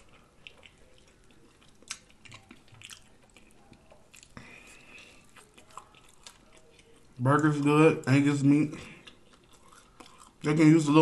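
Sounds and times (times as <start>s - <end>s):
man chewing: 0.0s - 11.0s.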